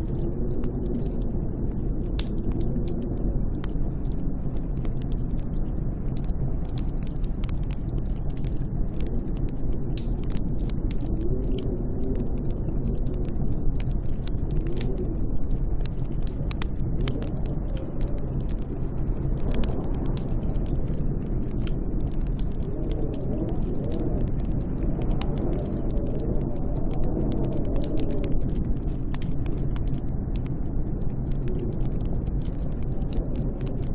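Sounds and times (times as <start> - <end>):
sharp crackling clicks: 0.0 - 33.9
snowstorm wind howling: 0.0 - 33.9.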